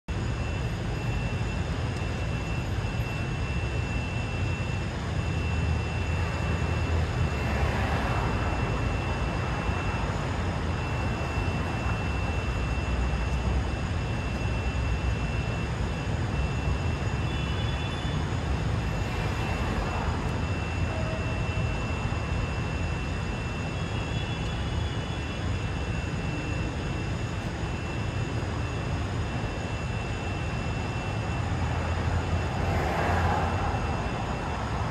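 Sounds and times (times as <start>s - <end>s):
traffic rumble: 0.1s - 34.9s.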